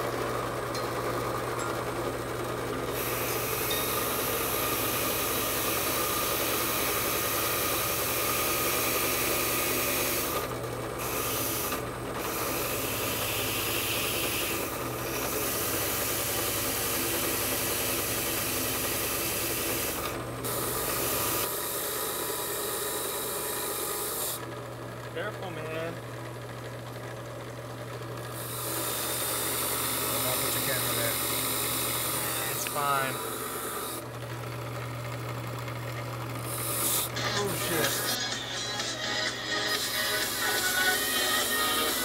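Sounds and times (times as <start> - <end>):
motor hum: 0.0 - 42.0.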